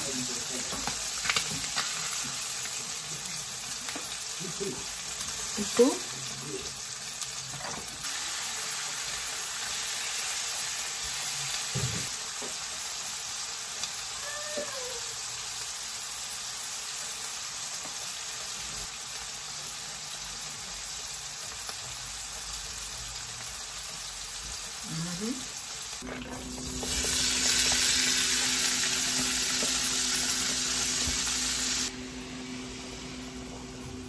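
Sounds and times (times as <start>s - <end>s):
chicken sizzling in a skillet: 0.0s - 34.0s.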